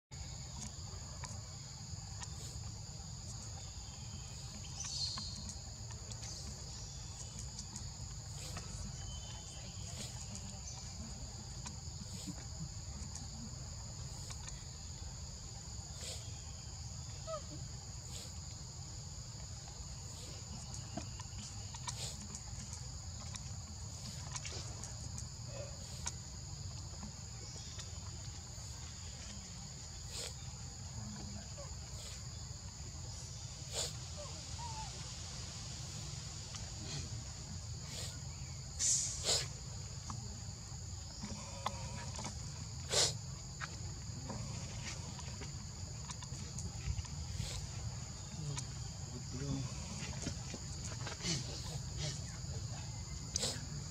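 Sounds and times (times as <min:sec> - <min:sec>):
insect chorus: 0:00.1 - 0:53.9.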